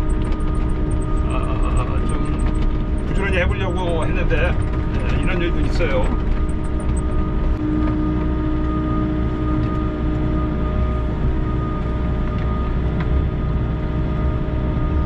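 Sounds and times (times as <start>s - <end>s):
diesel engine running: 0.0s - 15.0s
hydraulic whine: 0.0s - 15.0s.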